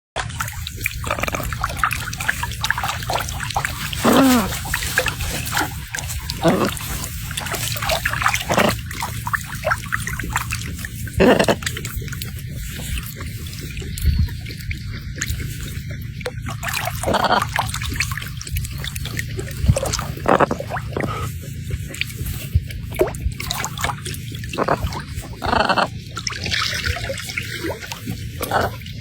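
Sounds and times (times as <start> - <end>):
running river water: 0.2 - 29.0.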